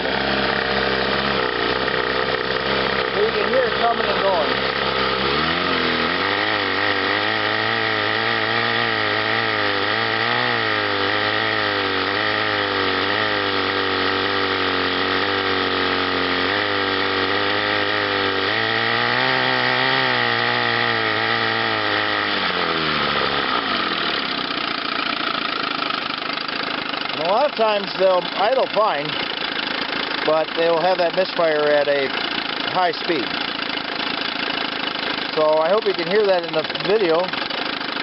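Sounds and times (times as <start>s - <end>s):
outboard motor running fast: 0.0s - 38.0s.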